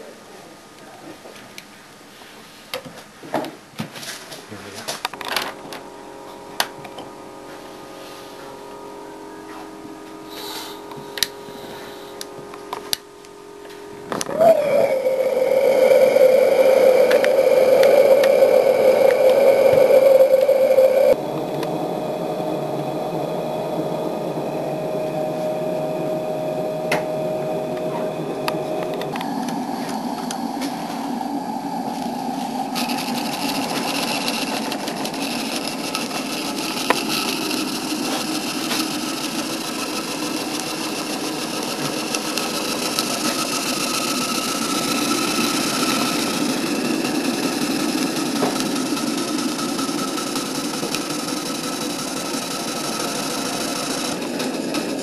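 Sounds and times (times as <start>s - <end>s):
model steam engine running: 5.1s - 55.0s.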